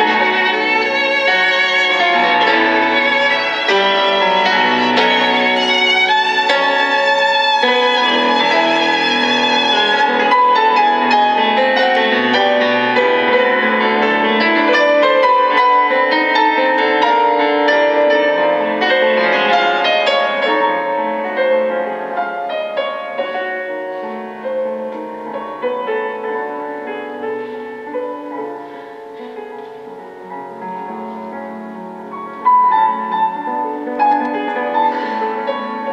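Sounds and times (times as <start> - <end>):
violin and piano music: 0.0 - 35.9.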